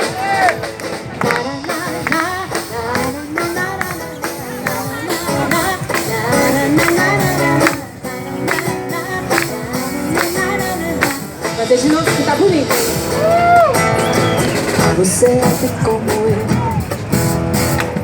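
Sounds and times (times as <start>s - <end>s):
percussive beat: 0.0s - 18.0s.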